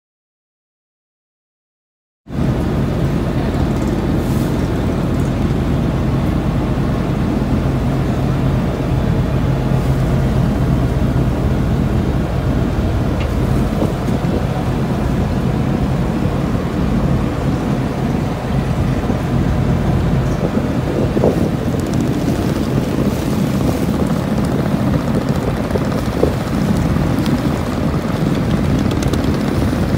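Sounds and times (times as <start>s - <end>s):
boat engine droning: 2.3s - 29.9s.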